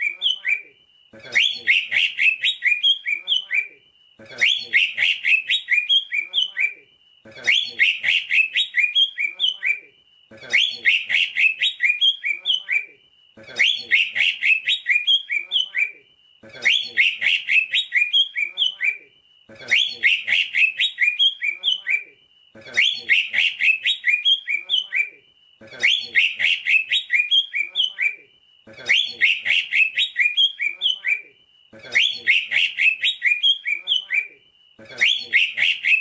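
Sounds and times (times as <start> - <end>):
bird singing chirps and whistles: 0.0 - 3.8, 4.4 - 6.9, 7.5 - 9.9, 10.5 - 13.0, 13.6 - 16.0, 16.6 - 19.1, 19.7 - 22.1, 22.8 - 25.2, 25.8 - 28.3, 28.9 - 31.3, 32.0 - 34.4, 35.0 - 36.0.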